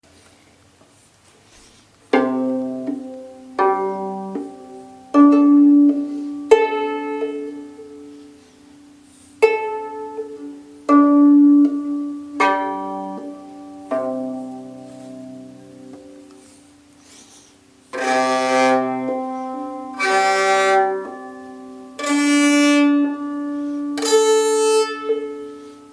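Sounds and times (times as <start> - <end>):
plucked viola strings: 2.1 - 25.9
sympathetic strings ringing: 2.1 - 25.9.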